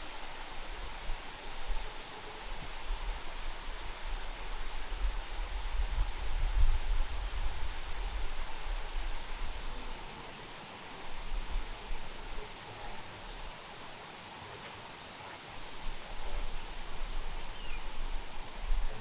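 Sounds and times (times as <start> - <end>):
insects pulsing calls: 0.0 - 19.0
outdoor hiss: 0.0 - 19.0.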